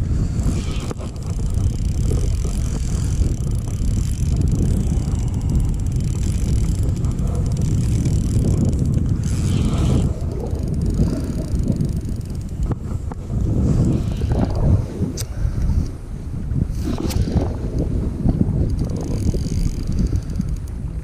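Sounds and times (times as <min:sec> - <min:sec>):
wind buffeting microphone: 0:00.0 - 0:21.0
fishing reel cranking: 0:00.1 - 0:14.6, 0:16.8 - 0:17.8, 0:18.6 - 0:21.0.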